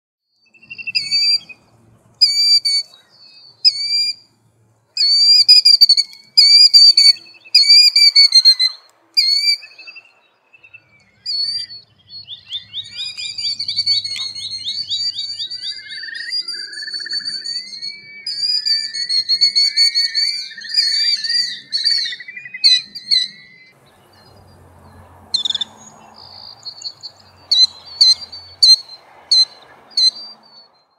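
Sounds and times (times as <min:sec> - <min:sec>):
bird shrill calls and trills: 0:00.4 - 0:04.3, 0:04.9 - 0:30.9.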